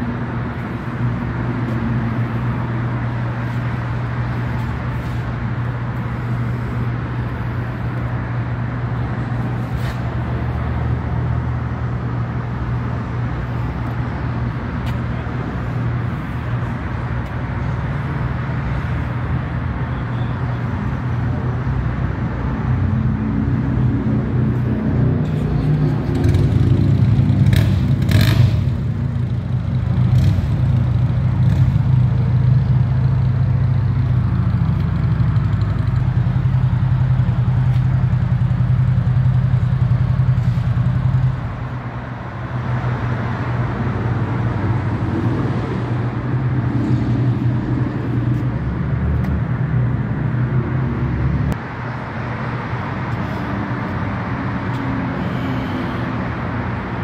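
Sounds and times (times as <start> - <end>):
vehicle engines rumbling: 0.0 - 57.0.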